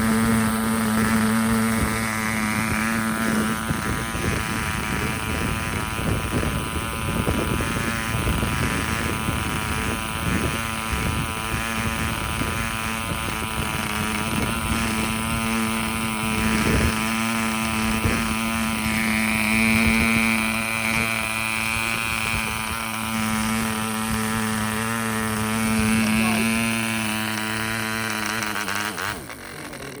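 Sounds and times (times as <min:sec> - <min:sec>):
model engine buzzing drone: 0:00.0 - 0:30.0.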